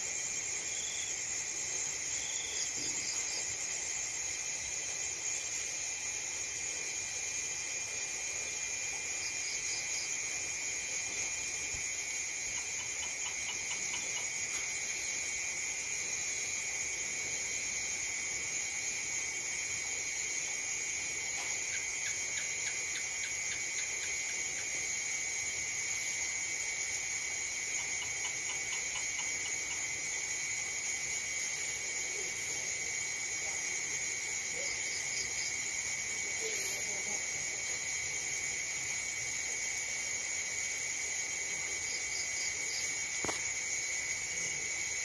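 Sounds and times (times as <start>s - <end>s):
insects chirping: 0.0s - 45.0s
rapid pulsed insect calls: 0.0s - 45.0s.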